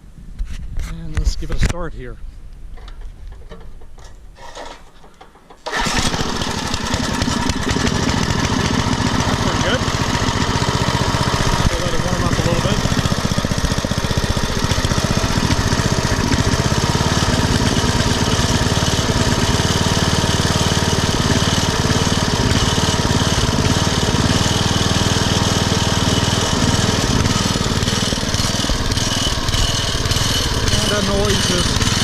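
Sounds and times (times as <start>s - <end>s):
small engine idling: 4.4s - 32.0s.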